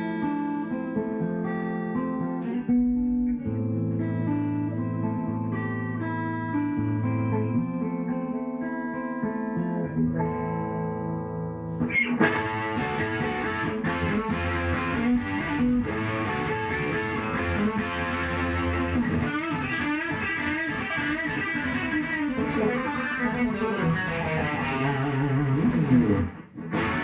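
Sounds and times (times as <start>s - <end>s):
electric guitar picked notes: 0.0s - 27.0s.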